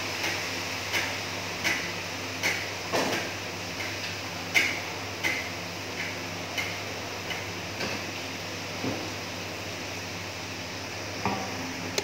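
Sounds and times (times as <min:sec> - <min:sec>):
hot oil frying fish: 0:00.0 - 0:12.0.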